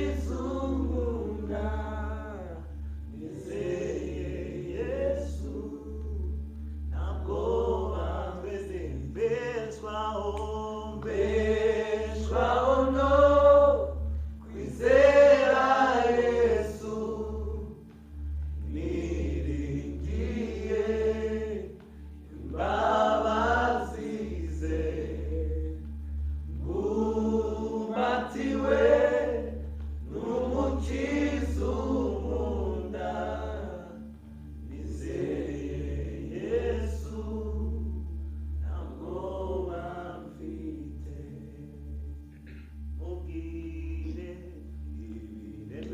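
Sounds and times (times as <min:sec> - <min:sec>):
steady low hum: 0:00.0 - 0:45.9
worship singing: 0:00.0 - 0:45.9.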